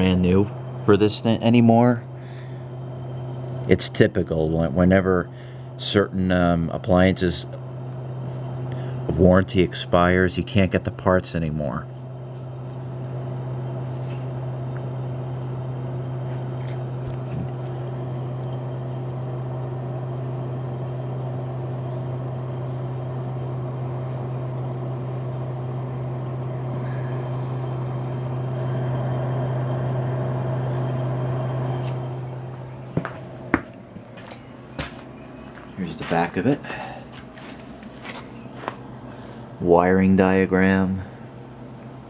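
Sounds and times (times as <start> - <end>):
fridge compressor humming: 0.0 - 42.0.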